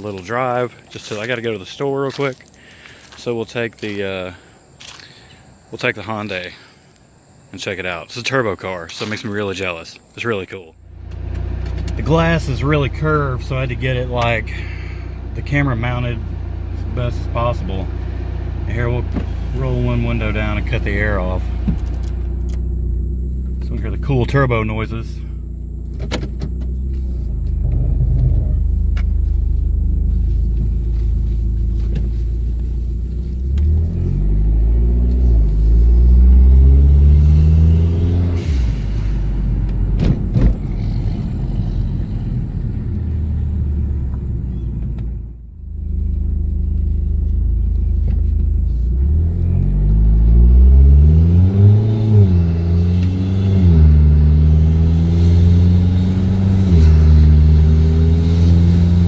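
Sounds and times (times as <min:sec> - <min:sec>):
car engine accelerating hard: 0:11.0 - 0:59.0.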